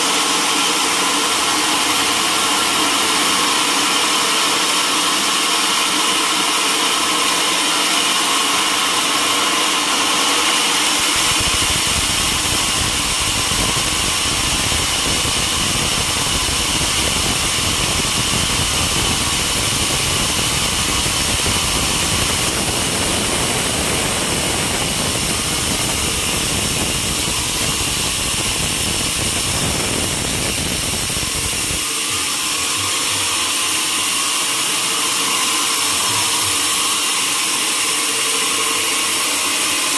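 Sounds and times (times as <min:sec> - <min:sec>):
sawmill blade cutting log: 0:00.0 - 0:39.9.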